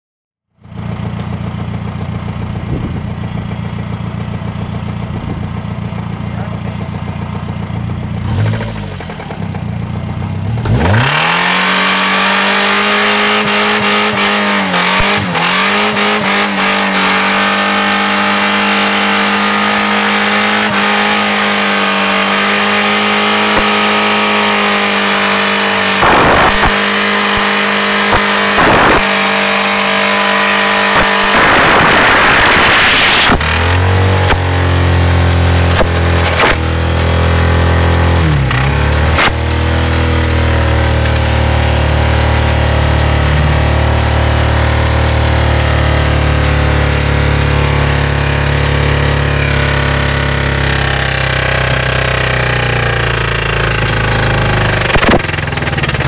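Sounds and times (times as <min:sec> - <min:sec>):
car engine idling and revving: 0:00.5 - 0:56.0.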